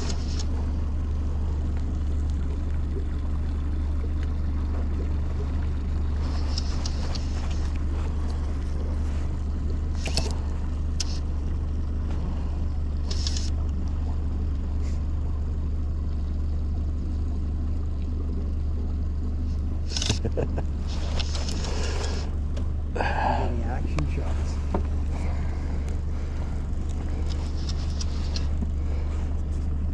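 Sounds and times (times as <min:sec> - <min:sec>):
boat motor droning: 0:00.0 - 0:29.9.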